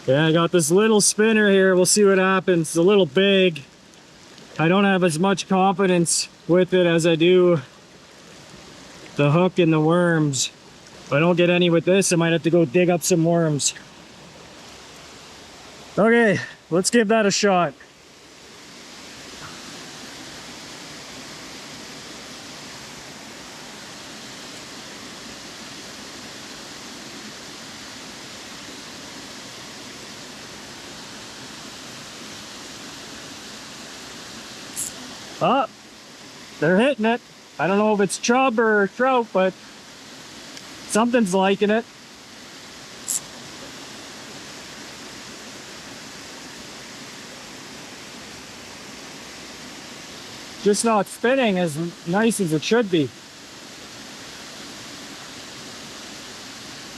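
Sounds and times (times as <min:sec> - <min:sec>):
waterfall and river rushing: 0:00.0 - 0:56.9.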